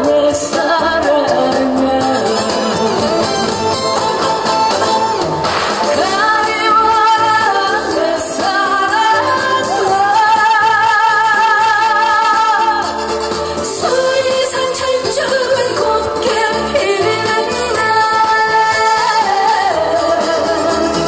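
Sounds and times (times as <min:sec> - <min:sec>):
woman singing into a microphone: 0:00.0 - 0:03.3, 0:05.8 - 0:21.0
amplified band accompaniment: 0:00.0 - 0:21.0.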